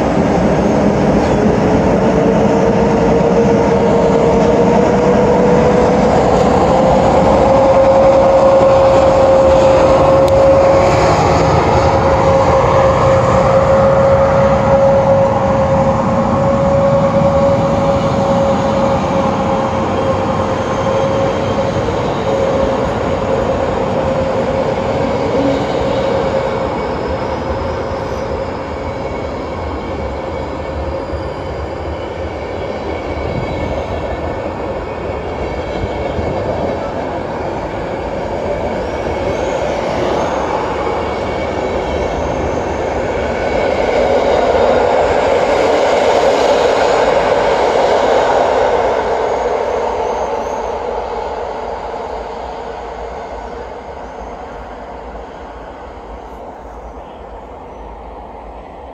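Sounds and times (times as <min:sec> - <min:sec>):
train coaches rolling past: 0:00.0 - 0:58.9.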